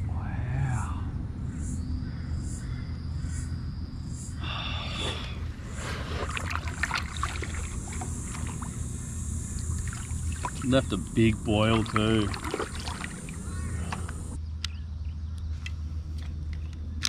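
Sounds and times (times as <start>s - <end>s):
steady low rumble: 0.0s - 14.4s.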